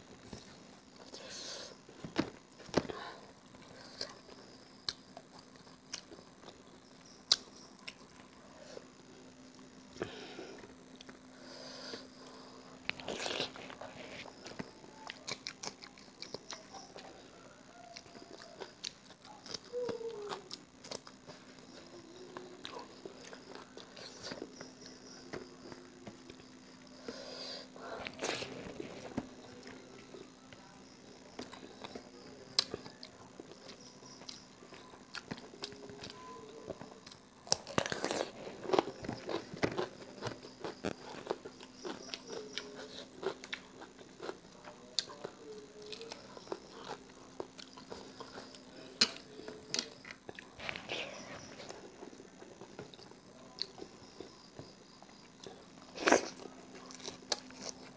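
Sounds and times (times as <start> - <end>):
chewing crunchy leafy greens: 0.1 - 57.9.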